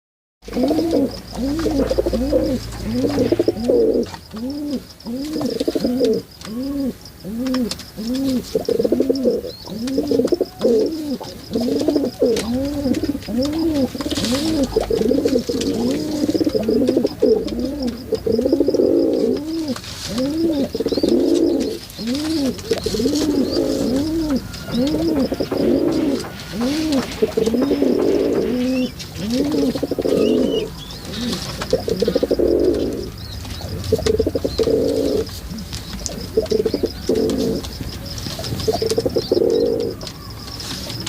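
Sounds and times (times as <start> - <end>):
pigeons cooing: 0.4 - 41.0.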